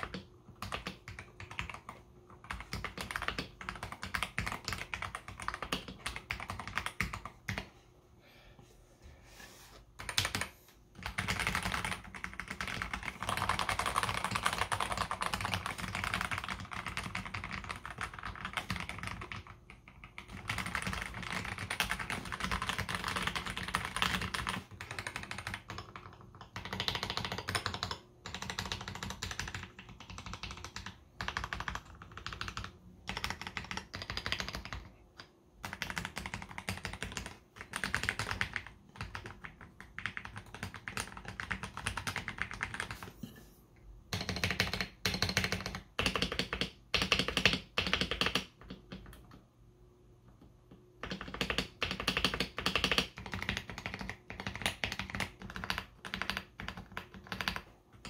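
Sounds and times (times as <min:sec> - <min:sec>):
fast keyboard typing clicks: 0:00.0 - 0:07.7, 0:10.0 - 0:43.1, 0:44.1 - 0:49.4, 0:50.7 - 0:58.0.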